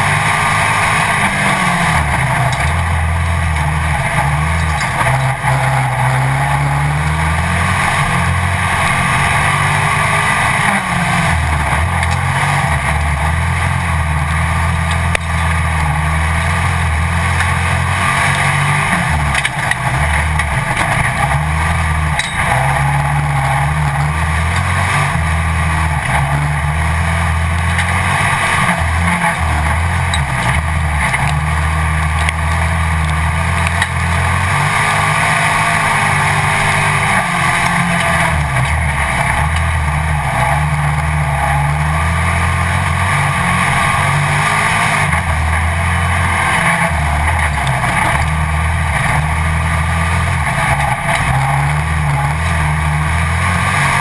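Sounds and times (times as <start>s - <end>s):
race car engine revving: 0.0s - 54.0s
steady rushing noise: 0.0s - 54.0s.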